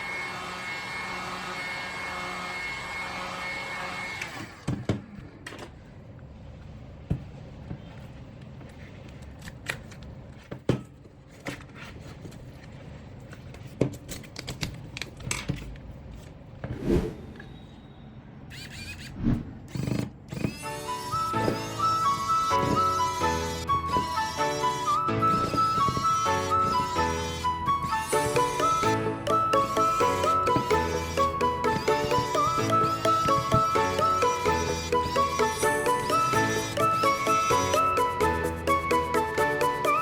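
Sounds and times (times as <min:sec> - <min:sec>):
steady mechanical hum: 0:00.0 - 0:37.8.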